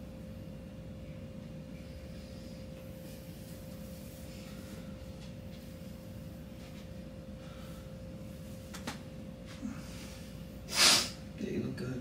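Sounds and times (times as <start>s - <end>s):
low hum: 0.0s - 11.4s.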